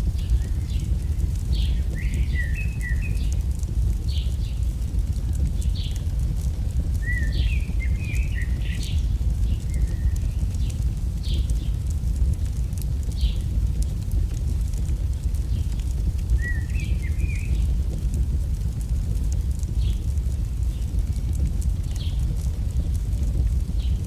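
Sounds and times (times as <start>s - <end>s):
fire crackling: 0.0s - 24.0s
small birds chirping: 0.0s - 24.0s
steady low rumble: 0.0s - 24.0s.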